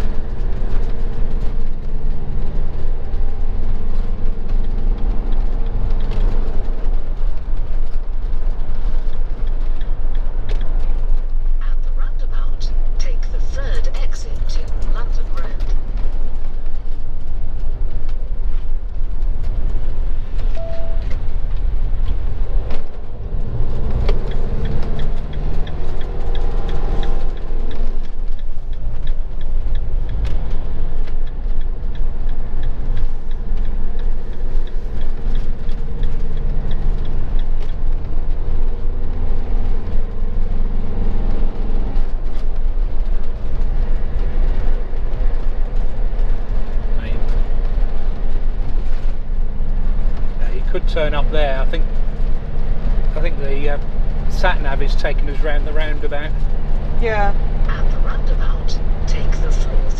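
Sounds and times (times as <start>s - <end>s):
engine and road rumble: 0.0s - 59.9s
turn indicator ticking: 0.0s - 59.9s.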